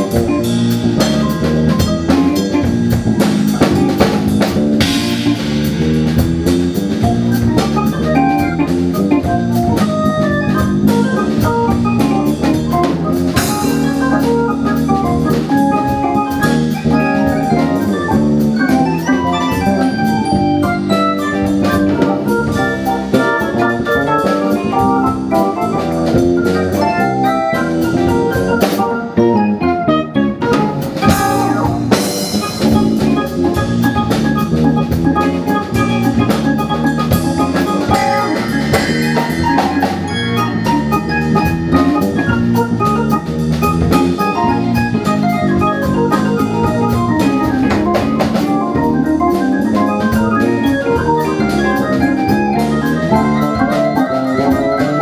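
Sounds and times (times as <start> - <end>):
drum kit: 0.0 - 55.0
electric bass: 0.0 - 55.0
electric guitar: 0.0 - 55.0
organ keyboard: 0.0 - 55.0.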